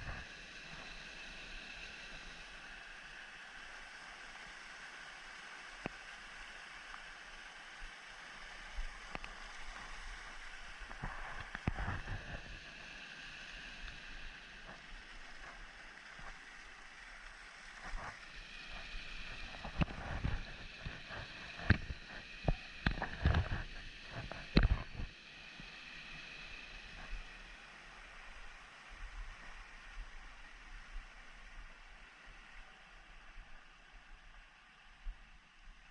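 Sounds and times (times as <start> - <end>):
stream running over rocks: 0.0 - 35.9.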